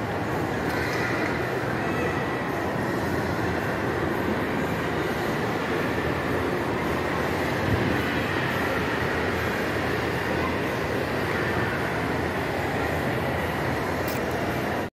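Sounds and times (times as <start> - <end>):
mall rumble and hiss: 0.0 - 14.9.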